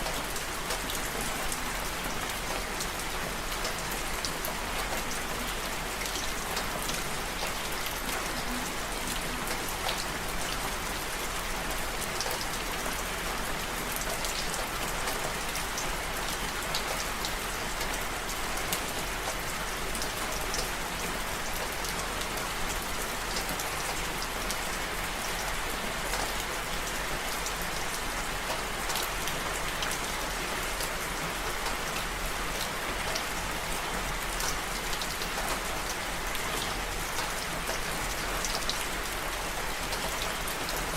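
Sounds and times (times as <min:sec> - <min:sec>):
raindrops ticking on a surface: 0:00.0 - 0:40.9
steady rain: 0:00.0 - 0:40.9.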